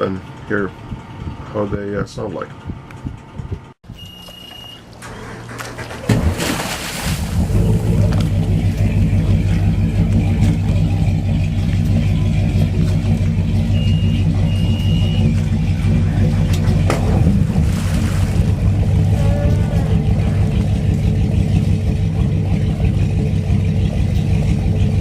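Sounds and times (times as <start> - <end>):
boat engine starting and idling: 0.0 - 25.0.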